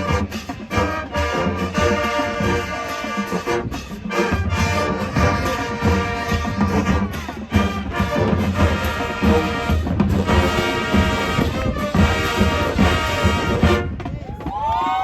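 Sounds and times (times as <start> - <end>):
marching band playing: 0.0 - 14.2.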